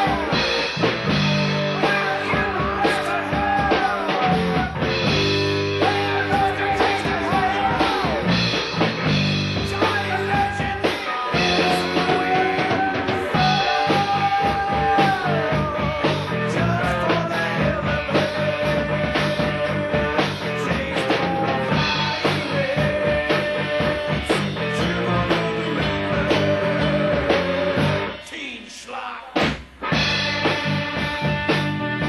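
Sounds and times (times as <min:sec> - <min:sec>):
rock music: 0:00.0 - 0:32.0.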